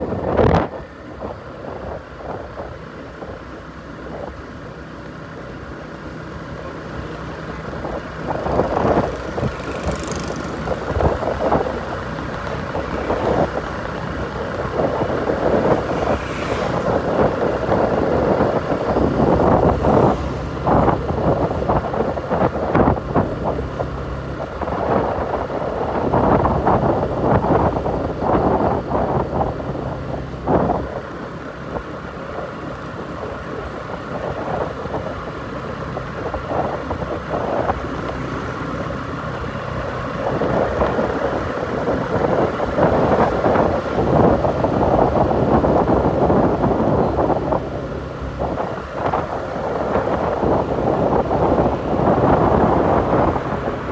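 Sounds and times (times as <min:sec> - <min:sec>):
large engine running: 0:00.0 - 0:53.9.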